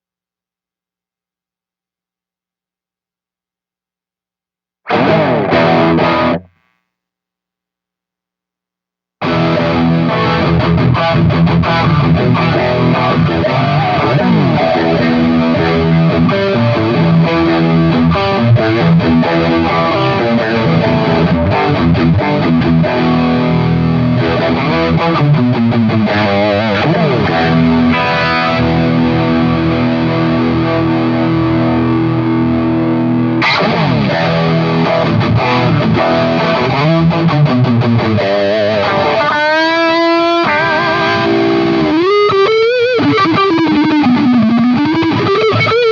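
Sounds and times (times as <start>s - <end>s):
distorted electric guitar: 4.9s - 7.0s, 9.2s - 45.9s.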